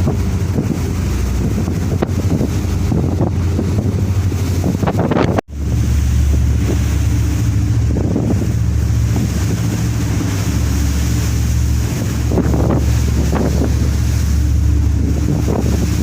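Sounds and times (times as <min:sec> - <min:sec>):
rough sea rumble: 0:00.0 - 0:16.0
wind buffeting microphone: 0:00.0 - 0:16.0.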